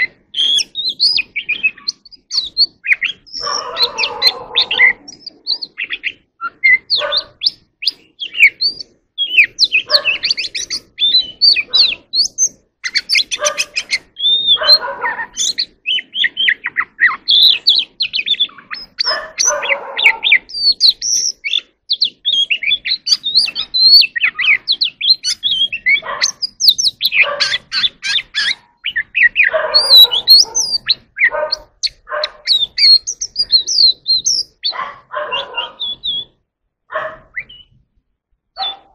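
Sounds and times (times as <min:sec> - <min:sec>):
bird singing whistles and trills: 0:00.0 - 0:36.4, 0:37.2 - 0:37.8, 0:38.6 - 0:38.9.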